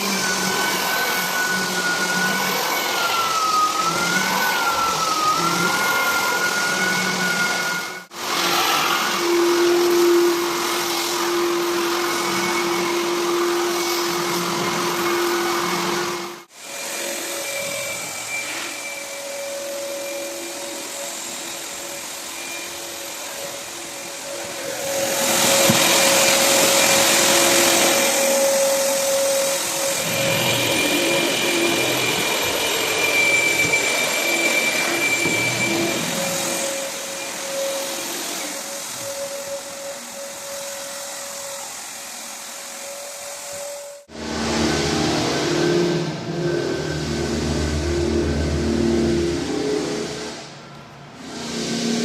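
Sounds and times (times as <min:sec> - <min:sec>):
vacuum motor whining: 0:00.0 - 0:50.8.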